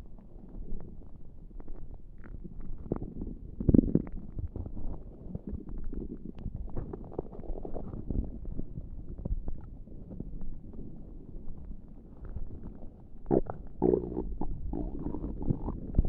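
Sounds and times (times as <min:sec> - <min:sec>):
stomach gurgling: 0:00.0 - 0:16.0.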